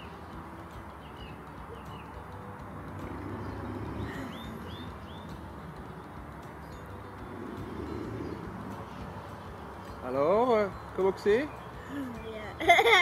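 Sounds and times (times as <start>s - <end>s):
small birds chirping: 0.0s - 2.4s, 3.0s - 12.6s.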